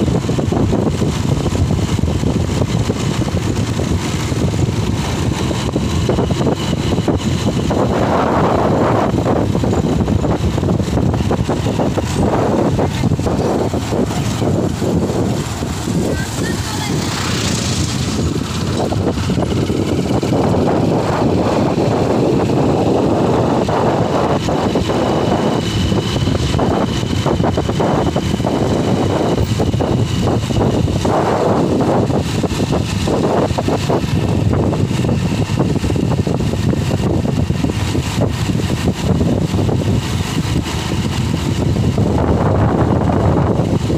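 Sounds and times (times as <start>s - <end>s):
motorcycle engine running: 0.0s - 43.9s
road and wind noise: 0.0s - 43.9s.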